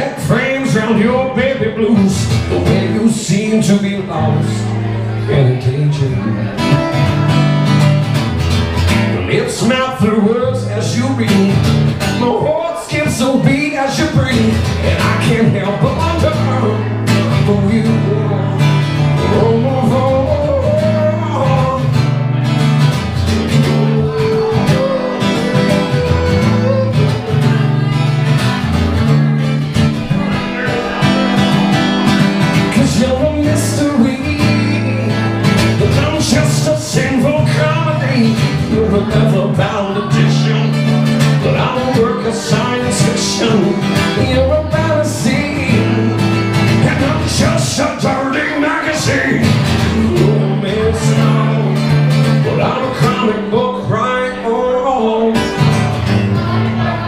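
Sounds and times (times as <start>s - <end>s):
man singing: 0.0s - 7.8s, 9.0s - 57.0s
acoustic guitar strumming: 0.0s - 57.0s.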